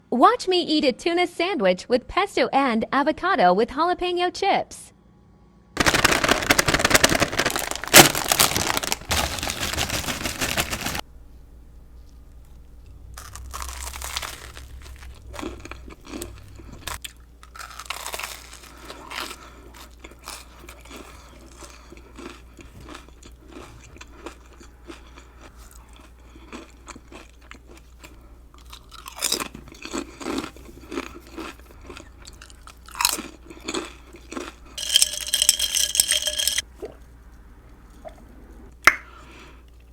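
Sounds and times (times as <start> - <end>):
person chewing and crunching food: 5.8 - 11.0, 12.0 - 39.9.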